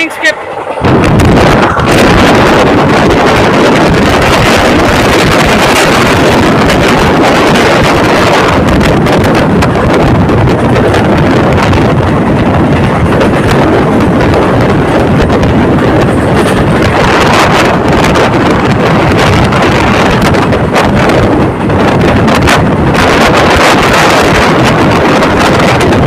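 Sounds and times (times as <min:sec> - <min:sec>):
train running noise: 0:00.0 - 0:26.0
wind rushing over microphone: 0:00.0 - 0:26.0.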